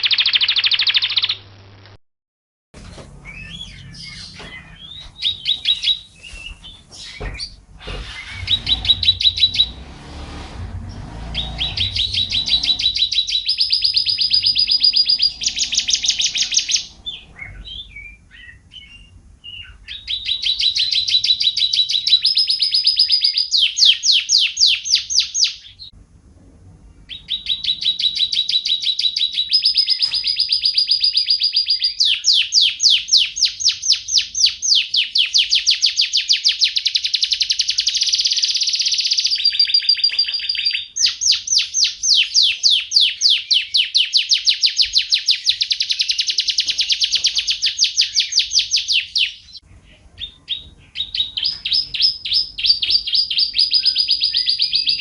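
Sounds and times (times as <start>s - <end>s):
bird singing: 0.0s - 1.4s, 3.2s - 9.9s, 10.8s - 26.0s, 27.0s - 55.0s.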